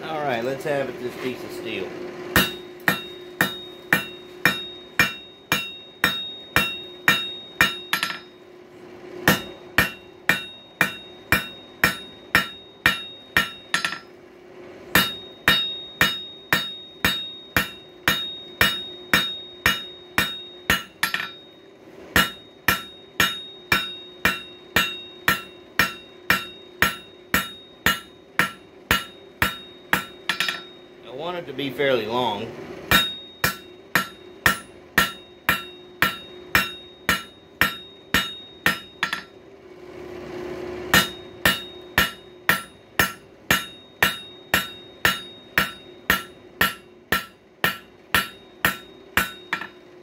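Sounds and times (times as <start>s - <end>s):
steady low hum: 0.0s - 50.0s
hammer blows on anvil: 2.3s - 8.4s, 9.2s - 14.2s, 14.9s - 31.3s, 32.9s - 39.4s, 40.9s - 49.9s.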